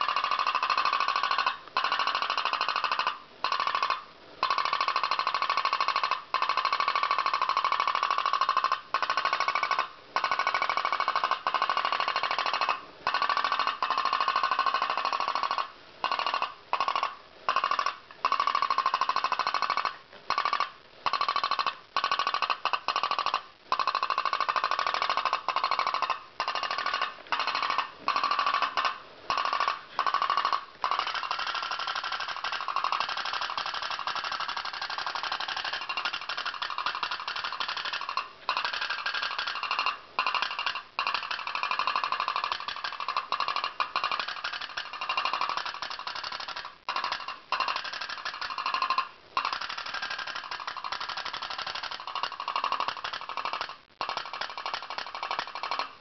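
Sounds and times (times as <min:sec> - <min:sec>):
pop-pop boat engine popping: 0:00.0 - 0:56.0.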